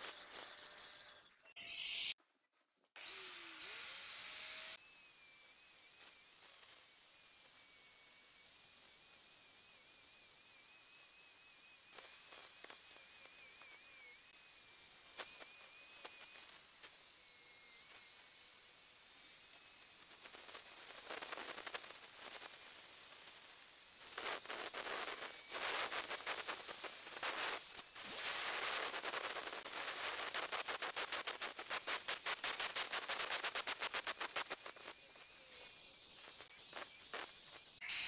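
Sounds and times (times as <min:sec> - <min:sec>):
angle grinder sanding wood: 0:00.0 - 0:01.5, 0:03.0 - 0:38.0.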